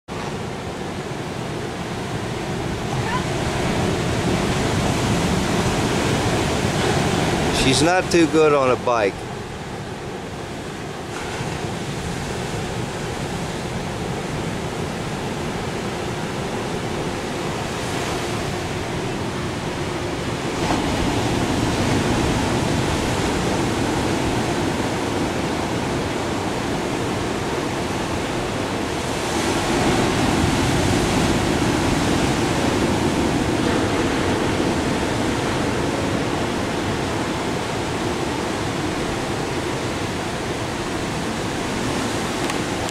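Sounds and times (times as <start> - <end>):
wind: 0.0 - 42.9
ocean surf: 0.1 - 42.9.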